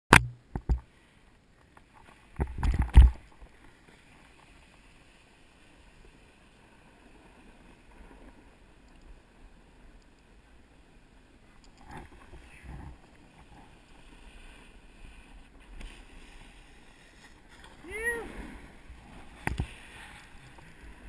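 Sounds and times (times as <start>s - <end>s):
snowboard sliding on snow: 3.3s - 21.0s.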